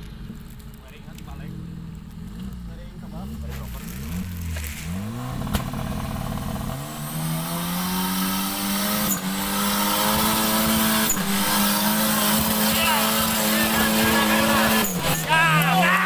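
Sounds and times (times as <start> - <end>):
engine revving under load: 0.0 - 16.0.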